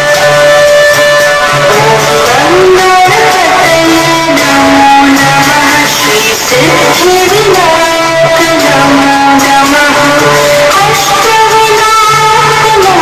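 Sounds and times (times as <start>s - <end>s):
loud electronic music: 0.0s - 13.0s.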